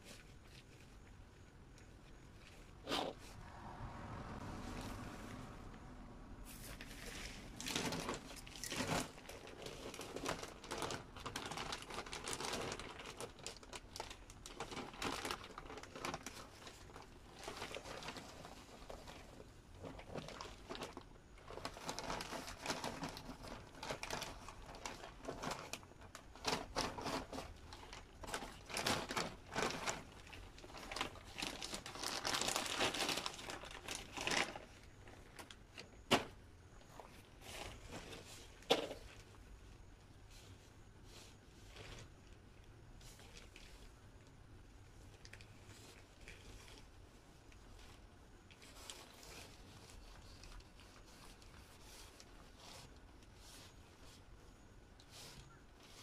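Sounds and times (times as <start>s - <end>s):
plastic bag crinkling: 6.4s - 44.3s, 45.0s - 54.3s.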